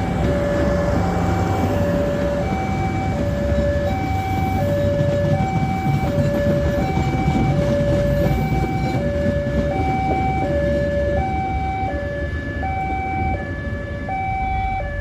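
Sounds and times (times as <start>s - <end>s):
two-tone warning signal: 0.0s - 15.0s.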